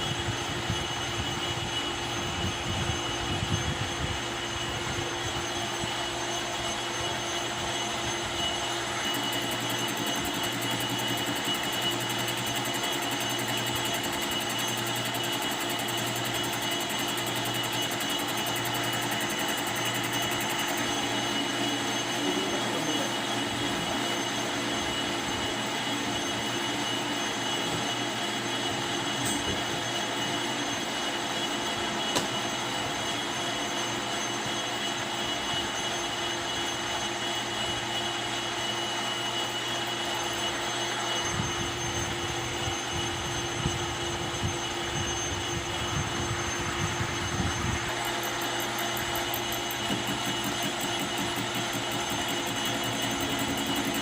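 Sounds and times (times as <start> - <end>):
metal lathe running: 0.0 - 54.0.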